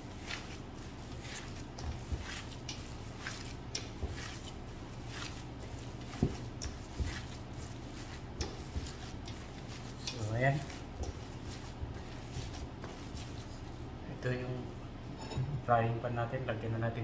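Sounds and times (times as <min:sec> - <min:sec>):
hands kneading minced meat: 0:00.0 - 0:15.0
steady low hum: 0:00.0 - 0:17.0.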